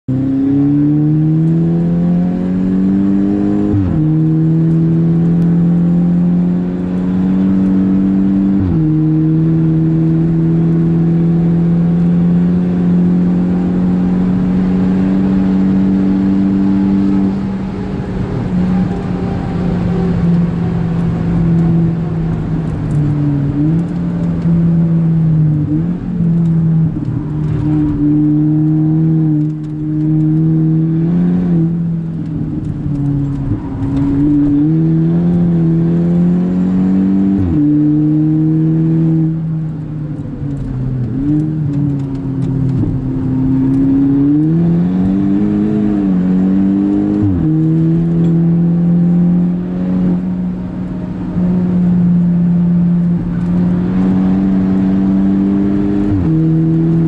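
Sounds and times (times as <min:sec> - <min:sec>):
car engine revving: 0:00.1 - 0:57.0
gear upshifts: 0:00.6 - 0:57.0.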